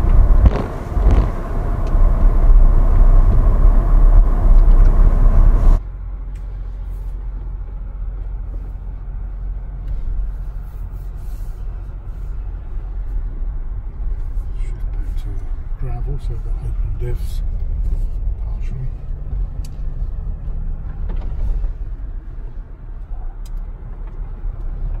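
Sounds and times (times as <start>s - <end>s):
loud low engine rumble: 0.0s - 25.0s
suv rolling rumble in cabin: 0.0s - 25.0s.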